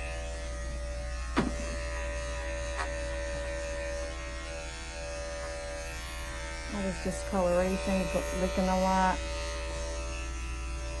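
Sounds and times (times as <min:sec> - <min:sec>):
electric clippers buzzing: 0:00.0 - 0:11.0.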